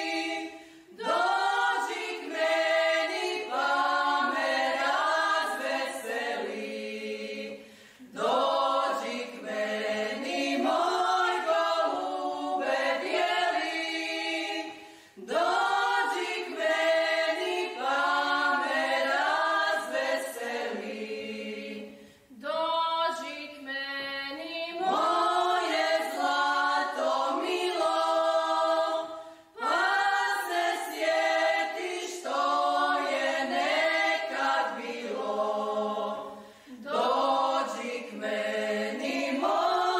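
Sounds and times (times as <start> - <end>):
choir singing unaccompanied: 0.0 - 22.0, 24.6 - 39.9.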